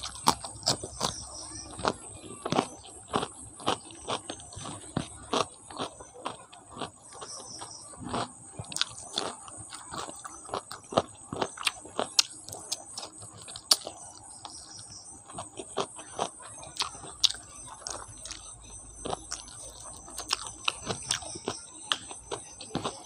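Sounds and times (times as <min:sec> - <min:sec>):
wet chewing and lip smacking: 0:00.0 - 0:23.0.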